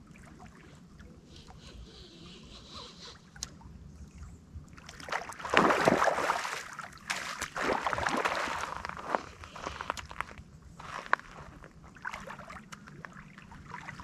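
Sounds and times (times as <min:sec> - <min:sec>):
water splashing and sloshing: 0:00.0 - 0:01.7, 0:03.2 - 0:14.0.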